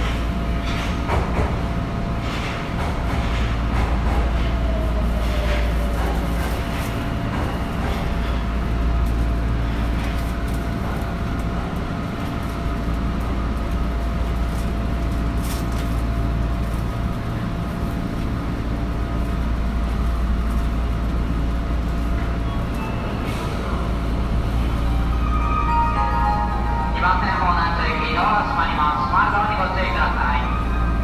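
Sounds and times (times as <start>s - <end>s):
subway train equipment humming: 0.0s - 31.0s.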